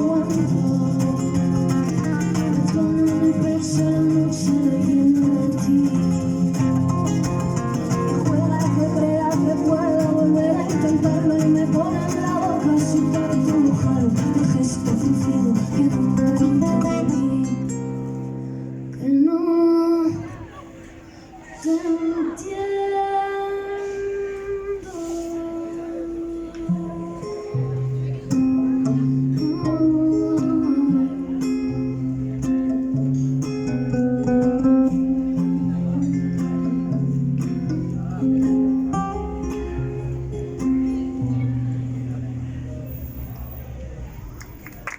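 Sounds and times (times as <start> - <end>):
acoustic guitar instrumental music: 0.0 - 44.7.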